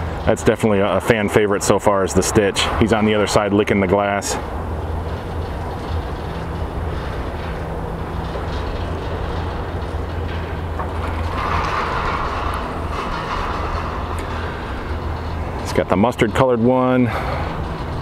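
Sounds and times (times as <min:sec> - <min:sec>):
gondola lift rumbling clatter: 0:00.0 - 0:18.0.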